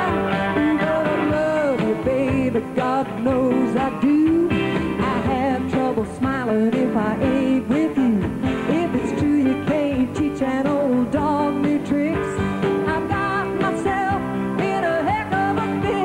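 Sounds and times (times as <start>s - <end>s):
country band playing live: 0.0s - 16.0s
woman singing: 0.0s - 16.0s.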